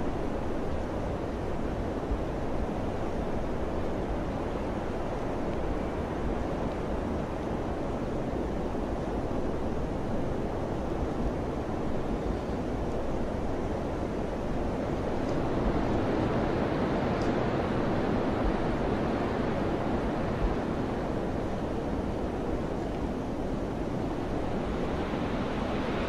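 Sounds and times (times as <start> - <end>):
wind blowing: 0.0 - 26.0.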